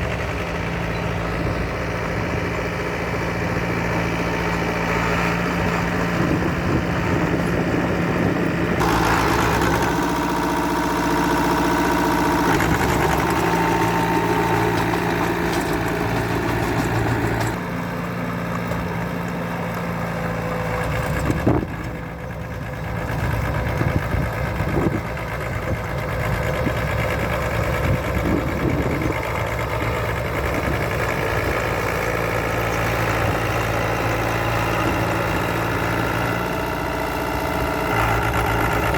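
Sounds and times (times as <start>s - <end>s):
diesel machinery engine drone: 0.0s - 38.9s.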